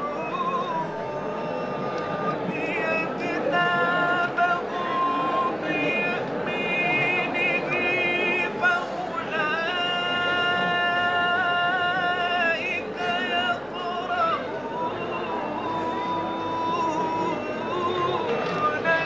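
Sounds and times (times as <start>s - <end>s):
hum of room full of listeners: 0.0s - 19.0s
man chanting melodic recitation: 0.0s - 19.0s.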